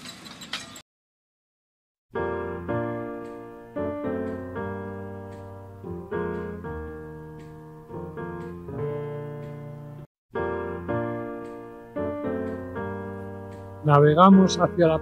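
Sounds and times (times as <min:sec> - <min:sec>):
piano chords ringing: 0:02.2 - 0:15.0.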